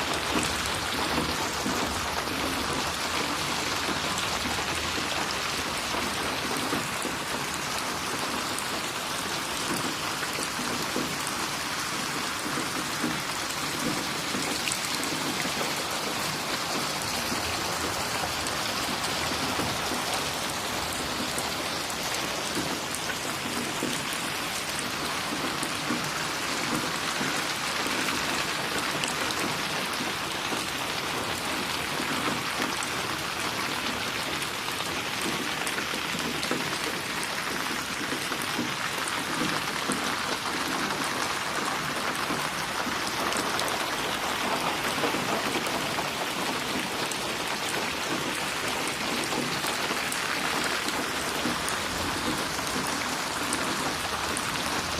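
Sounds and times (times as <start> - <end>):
raindrops splashing: 0.0 - 54.9
steady rain falling: 0.0 - 54.9.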